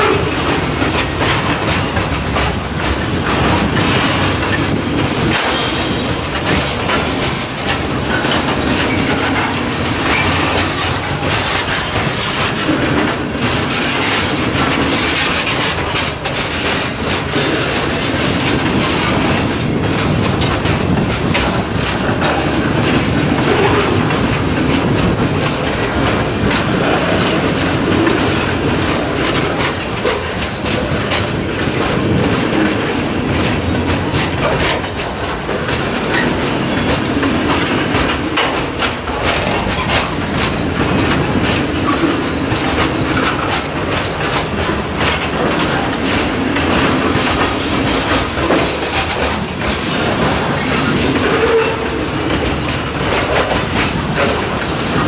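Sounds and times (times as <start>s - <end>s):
freight train wheels clattering: 0.0s - 55.0s
wheels clicking over rail joints: 0.0s - 55.0s.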